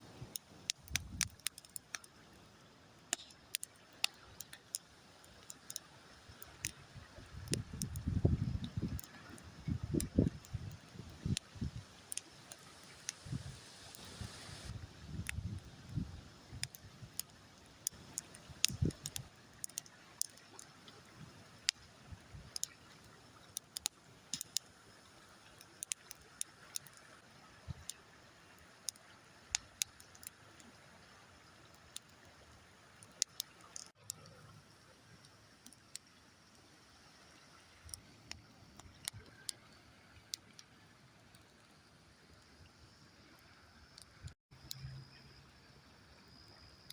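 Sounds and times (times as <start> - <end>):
campfire crackling: 0.0 - 42.6.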